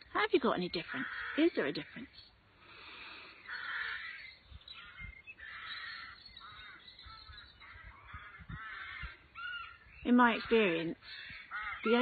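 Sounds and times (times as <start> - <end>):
crows cawing: 0.8 - 2.0, 2.7 - 10.0, 11.0 - 12.0.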